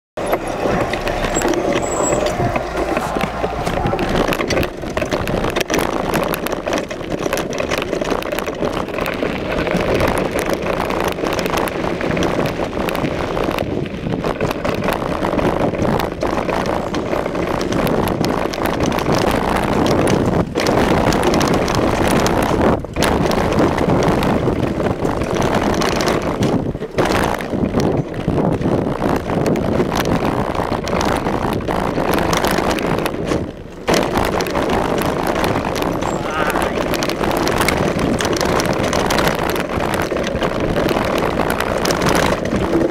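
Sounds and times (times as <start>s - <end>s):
bike rattling: 0.2s - 42.9s
tyres rolling over gravel: 0.2s - 42.9s
wind on microphone: 0.2s - 42.9s.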